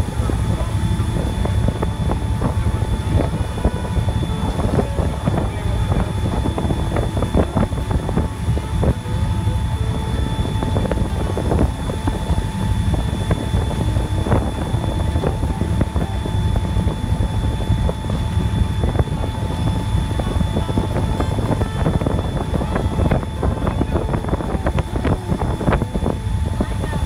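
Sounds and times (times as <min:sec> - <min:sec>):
faint high whine: 0:00.0 - 0:27.0
train rumbling: 0:00.0 - 0:27.0.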